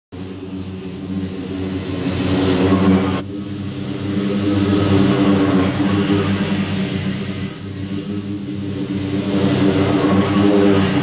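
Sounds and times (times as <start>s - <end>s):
lawn mower engine running: 0.2s - 11.0s.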